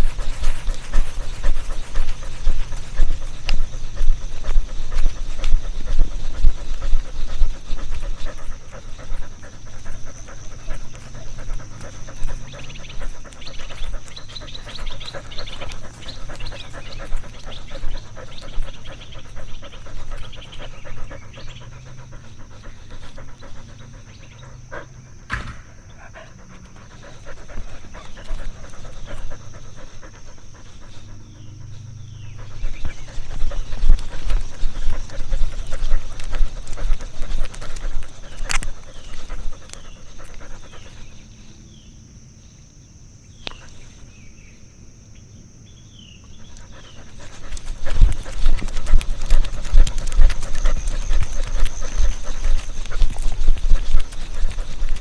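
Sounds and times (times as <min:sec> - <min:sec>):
dog panting: 0:00.0 - 0:41.5, 0:46.2 - 0:55.0.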